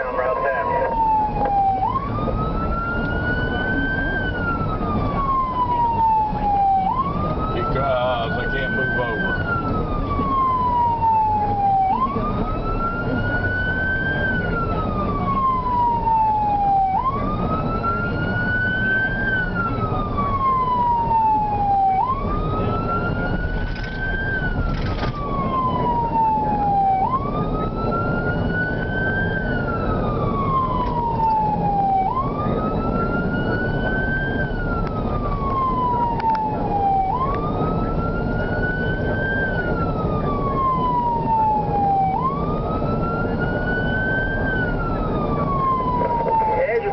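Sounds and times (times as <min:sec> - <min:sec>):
engine and road noise: 0:00.0 - 0:46.9
fire engine wail siren: 0:00.0 - 0:46.9.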